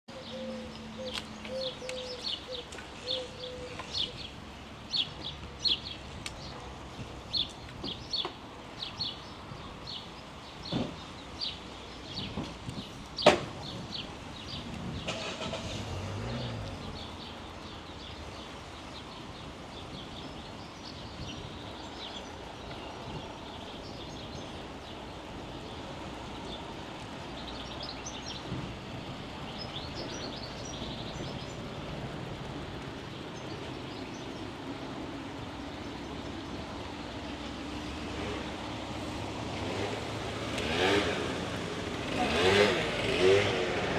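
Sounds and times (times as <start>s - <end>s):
birds chirping: 0.1s - 43.9s
outdoor background rumble: 0.1s - 43.9s.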